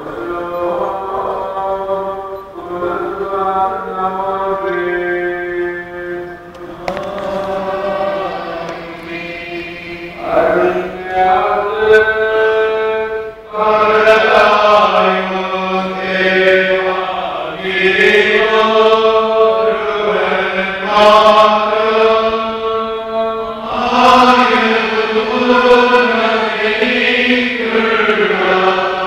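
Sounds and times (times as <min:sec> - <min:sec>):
slow liturgical chant: 0:00.0 - 0:29.0.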